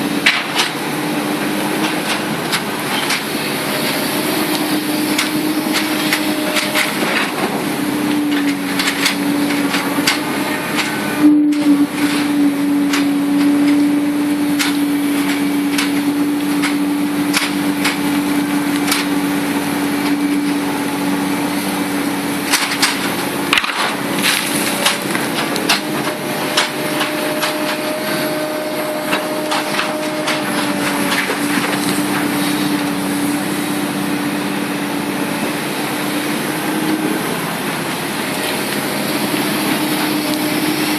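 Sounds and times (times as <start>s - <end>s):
excavator engine humming: 0.0s - 40.9s.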